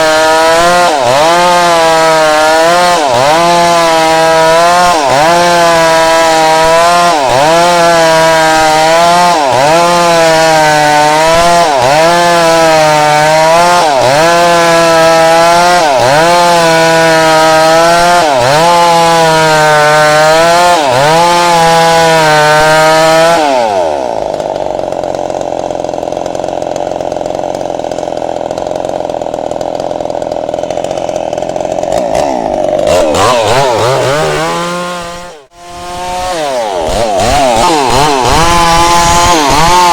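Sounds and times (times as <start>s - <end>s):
chainsaw ripping timber: 0.0s - 39.9s.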